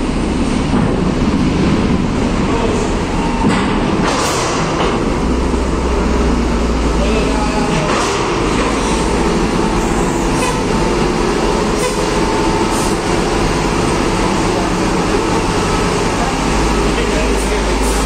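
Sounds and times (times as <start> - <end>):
bus diesel engine rumbling: 0.0 - 18.0.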